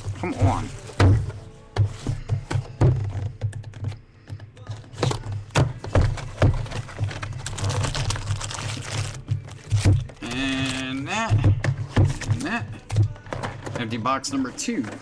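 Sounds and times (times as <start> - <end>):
rustling foil packs: 0.0 - 2.4, 4.6 - 15.0
hands handling card packs: 0.0 - 15.0.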